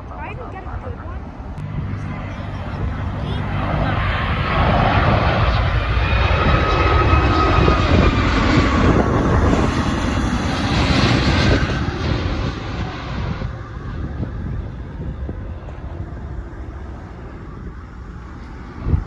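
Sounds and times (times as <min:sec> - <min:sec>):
airliner engines passing: 0:00.0 - 0:19.0.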